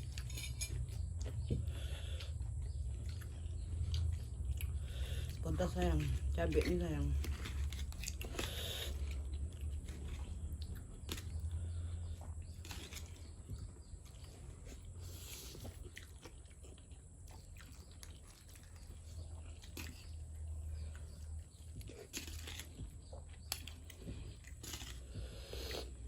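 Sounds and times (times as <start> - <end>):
person chewing noodles: 0.0 - 5.4, 6.2 - 26.0.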